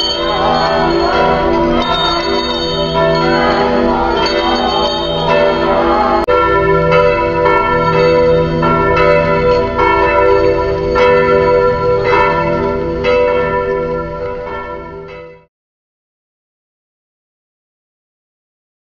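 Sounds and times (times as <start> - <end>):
church bells ringing: 0.0 - 15.5.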